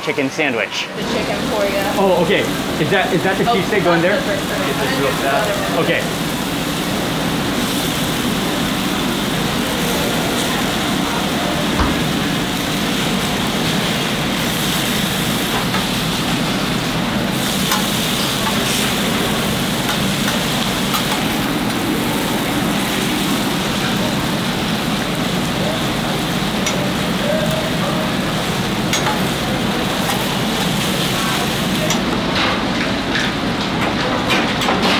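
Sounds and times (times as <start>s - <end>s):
meat sizzling on a griddle: 1.1s - 32.7s.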